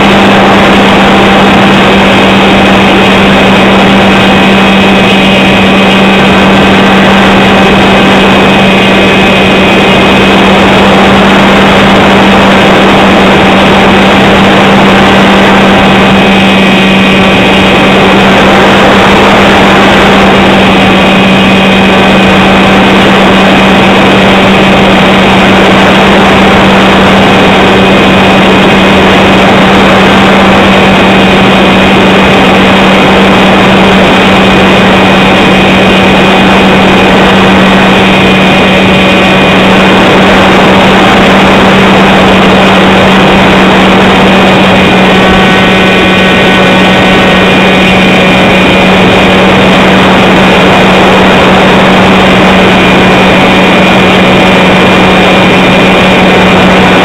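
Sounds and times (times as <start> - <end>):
electric motor and propeller drone: 0.0 - 57.0
rush of air noise: 0.0 - 57.0.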